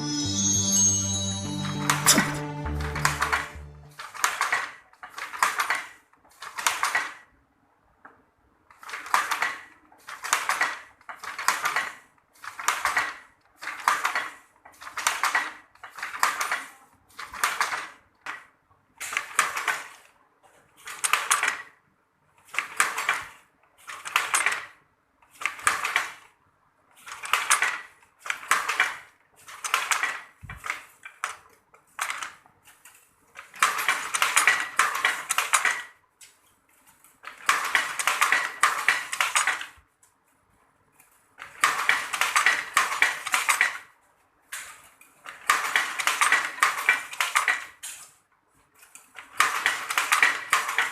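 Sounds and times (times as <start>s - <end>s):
weaving loom clacking: 0.0s - 7.2s, 8.8s - 20.1s, 22.5s - 26.3s, 27.0s - 31.4s, 32.0s - 39.8s, 41.4s - 43.9s, 44.6s - 48.1s, 49.0s - 50.9s.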